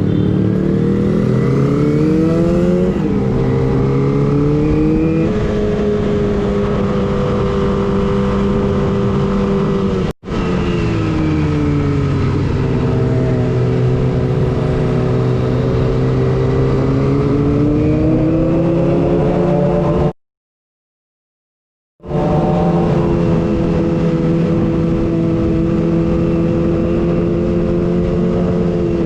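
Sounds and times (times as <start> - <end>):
motorcycle engine at high revs: 0.0 - 20.2, 22.0 - 29.0.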